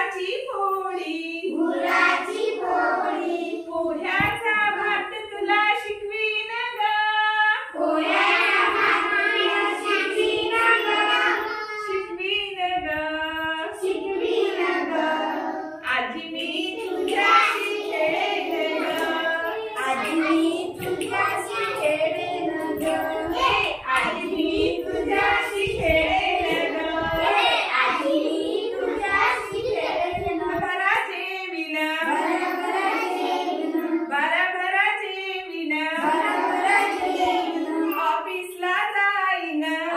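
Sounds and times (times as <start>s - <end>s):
children and women singing: 0.0s - 39.9s.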